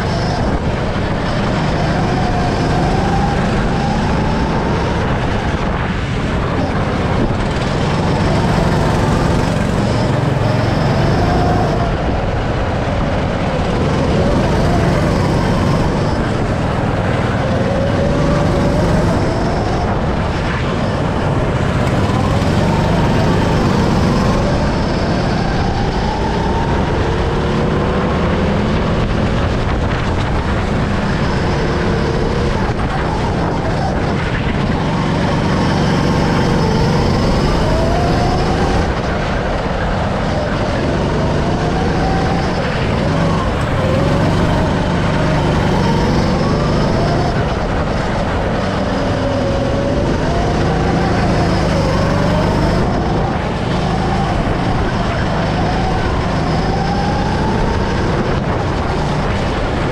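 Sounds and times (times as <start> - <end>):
go-kart motor revving: 0.0 - 59.9
steady rushing noise: 0.0 - 59.9.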